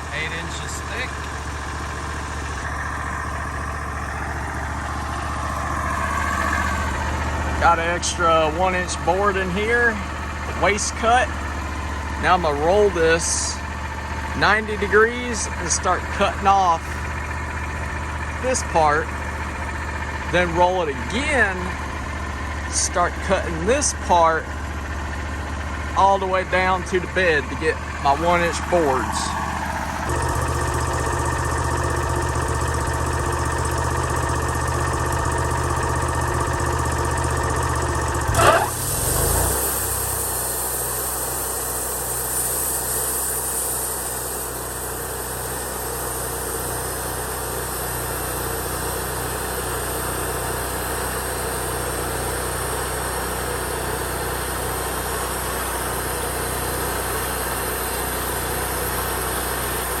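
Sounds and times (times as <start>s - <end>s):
engine idling: 0.0s - 60.0s.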